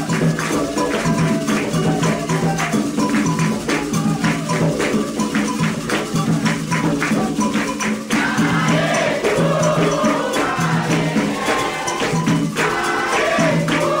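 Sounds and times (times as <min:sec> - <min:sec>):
hand drums: 0:00.0 - 0:14.0
rattling percussion: 0:00.0 - 0:14.0
voices singing a chant: 0:00.0 - 0:14.0.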